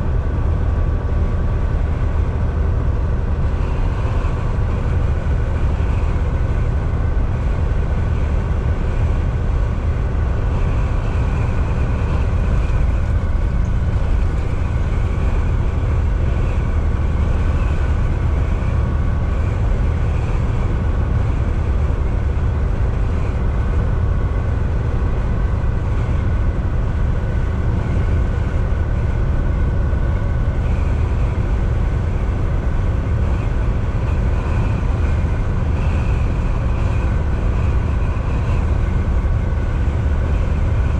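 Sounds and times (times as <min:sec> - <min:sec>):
diesel truck engine drone: 0:00.0 - 0:40.9
road and tyre noise: 0:00.0 - 0:40.9.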